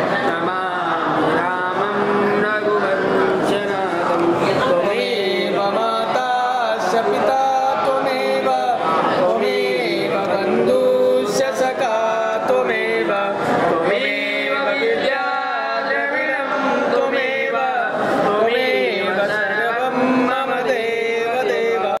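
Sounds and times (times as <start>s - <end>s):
men singing devotional hymn: 0.0s - 22.0s.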